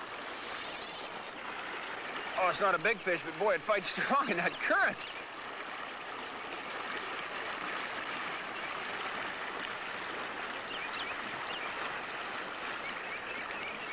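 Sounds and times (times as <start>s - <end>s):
stream water rushing: 0.0s - 13.9s.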